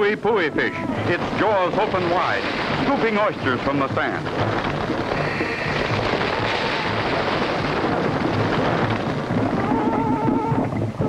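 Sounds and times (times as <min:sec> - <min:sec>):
cartoon rushing rumble: 0:00.8 - 0:11.0.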